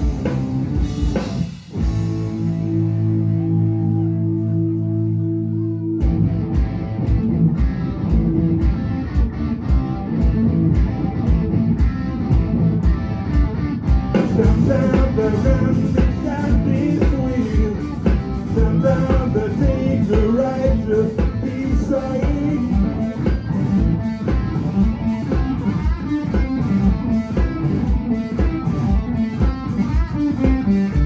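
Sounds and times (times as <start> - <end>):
drum kit beat: 0.0 - 3.9, 6.0 - 31.0
bass guitar: 0.0 - 31.0.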